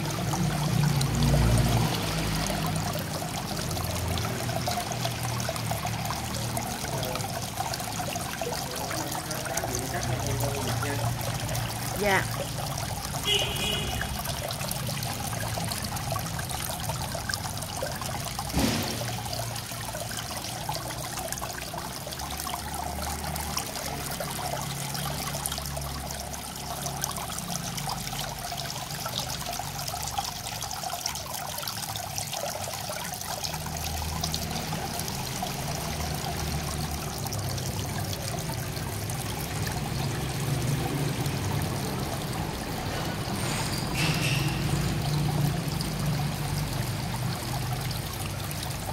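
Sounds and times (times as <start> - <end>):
water trickling over rocks: 0.0 - 48.9.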